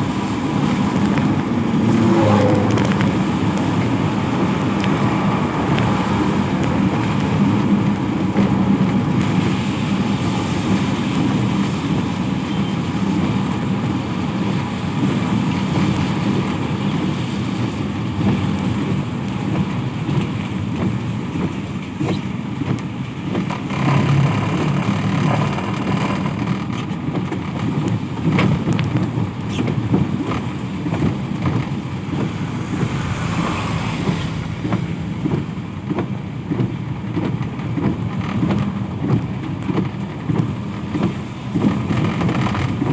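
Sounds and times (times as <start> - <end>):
vehicles passing on wet road: 0.0 - 42.9.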